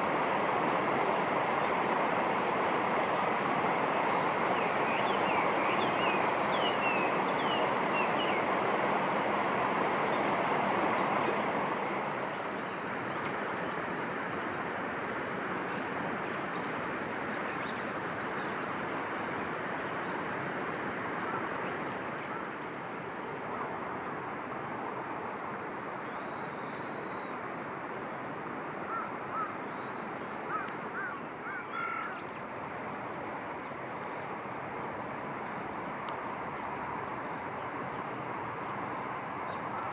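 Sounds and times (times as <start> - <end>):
rushing outdoor background noise: 0.0 - 39.9.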